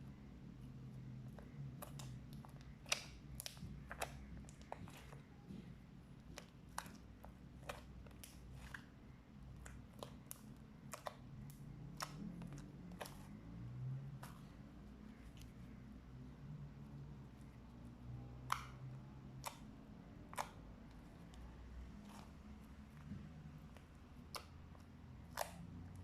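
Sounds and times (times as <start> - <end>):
faint low hum: 0.0 - 26.0
slime squishing with pops: 0.2 - 26.0.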